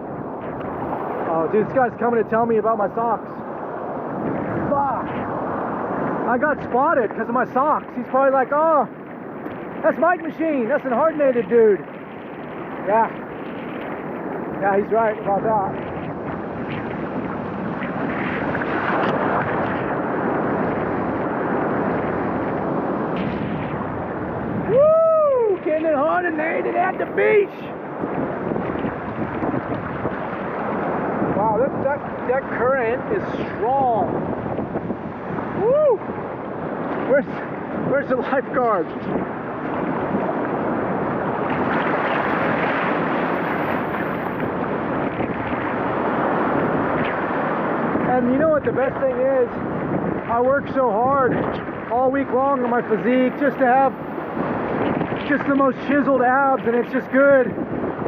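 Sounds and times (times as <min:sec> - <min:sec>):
ocean surf rushing: 0:00.0 - 0:58.0
wind buffeting microphone: 0:00.0 - 0:58.0.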